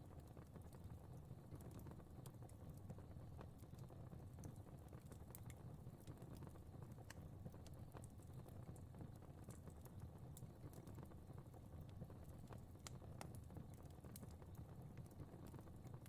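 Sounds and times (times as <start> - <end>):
fire crackling: 0.2 - 16.0.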